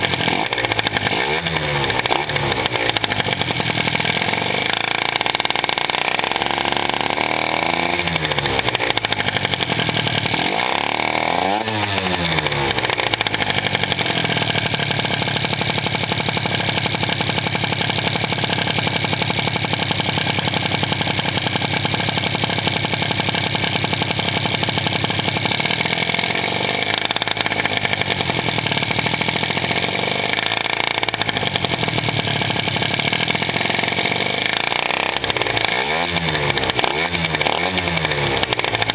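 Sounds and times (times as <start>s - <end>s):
two-stroke scooter engine revving: 0.0s - 38.9s.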